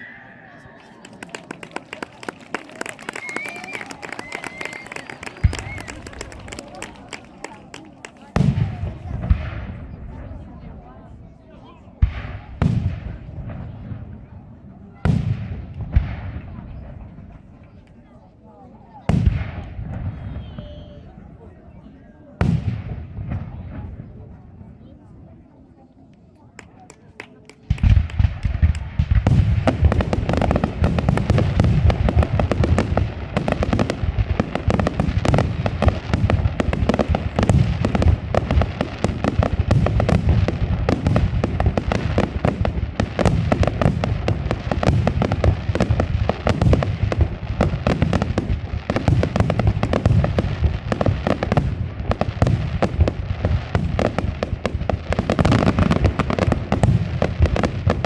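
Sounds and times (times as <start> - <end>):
fireworks bangs and crackles: 0.8 - 25.5, 26.6 - 58.0.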